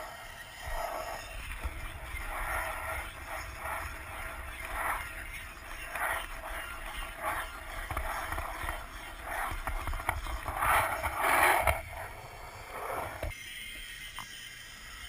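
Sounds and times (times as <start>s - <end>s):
skateboard wheels on concrete: 0.0s - 13.4s.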